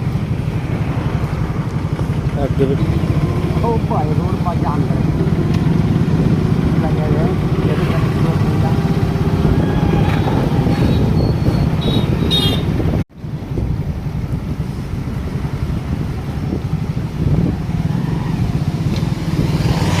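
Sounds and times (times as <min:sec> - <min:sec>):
vehicle engines rumbling: 0:00.0 - 0:20.0
wind noise on microphone: 0:00.0 - 0:20.0.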